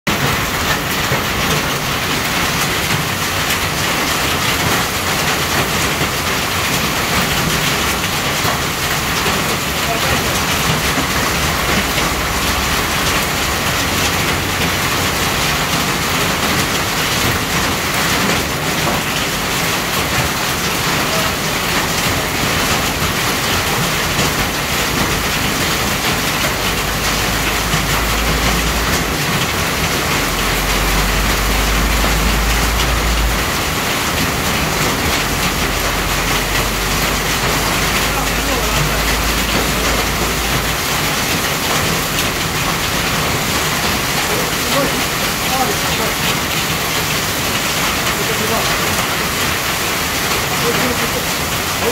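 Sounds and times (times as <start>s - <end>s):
hail and rain on roof: 0.1s - 51.9s.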